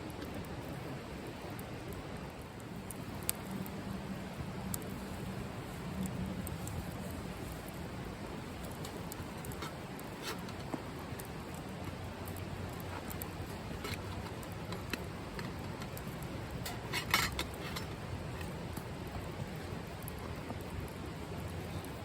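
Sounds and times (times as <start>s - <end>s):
low fire rumble: 0.0s - 22.0s
wood fire crackling and popping: 0.0s - 22.0s.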